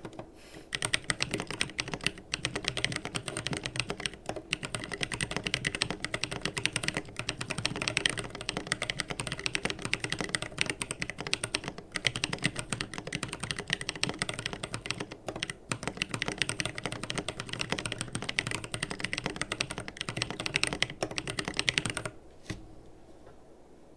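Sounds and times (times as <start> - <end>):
fast typing on mechanical keyboard: 0.0 - 22.2.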